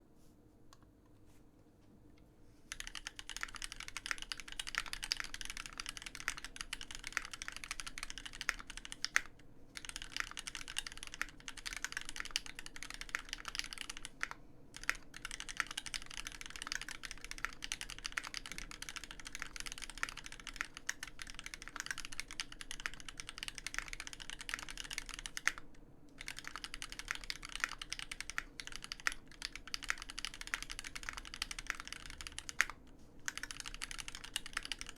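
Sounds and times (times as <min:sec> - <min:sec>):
mechanical keyboard typing: 0:02.7 - 0:25.6, 0:26.2 - 0:34.9.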